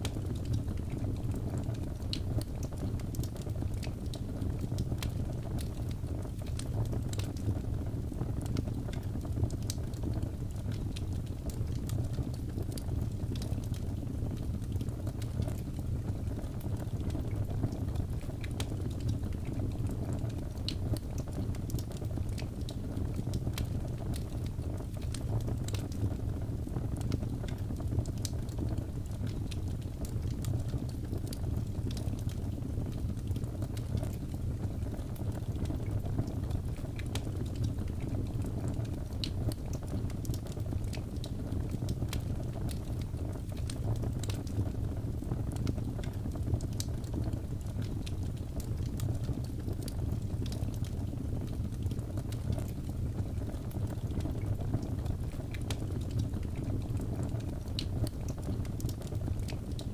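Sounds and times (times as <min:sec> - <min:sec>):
burning wood crackling: 0:00.0 - 0:59.9.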